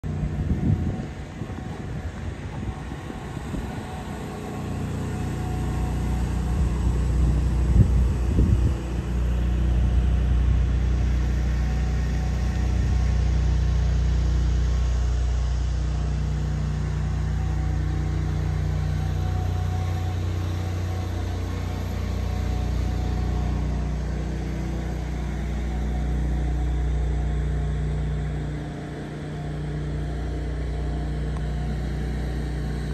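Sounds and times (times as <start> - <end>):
truck engine idling: 0.0 - 32.9.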